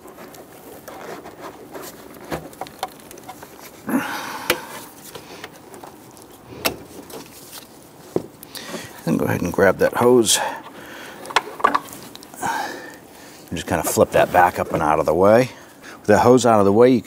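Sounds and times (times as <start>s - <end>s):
scraping rustle: 0.0s - 15.9s.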